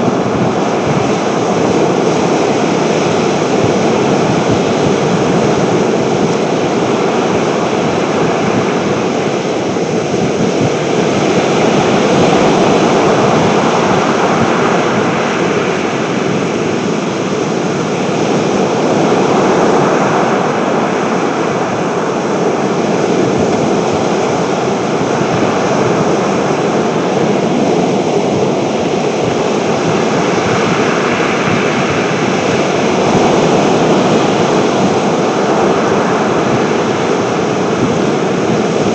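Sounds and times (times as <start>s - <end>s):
sea waves breaking: 0.0s - 38.9s
strong wind: 0.0s - 38.9s.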